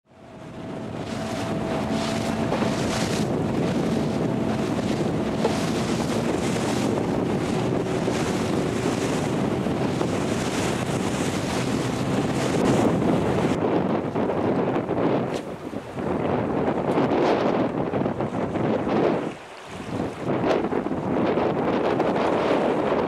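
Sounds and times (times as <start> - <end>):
waves on lake: 0.1 - 23.0
wind buffeting microphone: 0.1 - 23.0.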